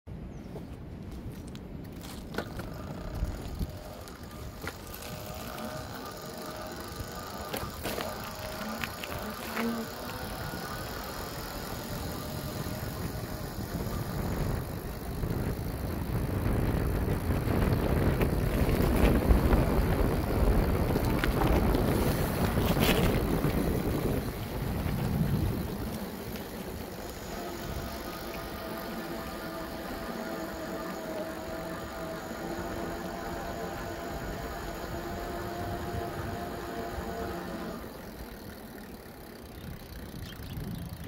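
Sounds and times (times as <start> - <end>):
wind buffeting microphone: 0.2 - 38.3, 39.5 - 41.0
bicycle tyre rumble on asphalt: 0.3 - 41.0.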